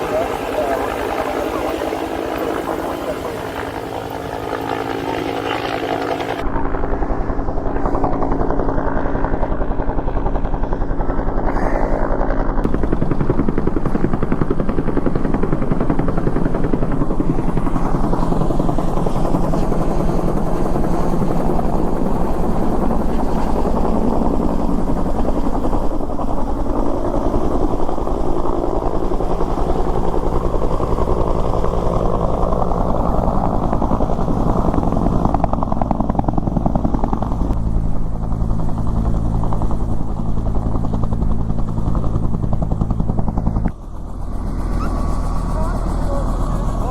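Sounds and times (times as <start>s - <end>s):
helicopter rotor chop: 0.0s - 46.9s
turbine drone: 0.0s - 46.9s.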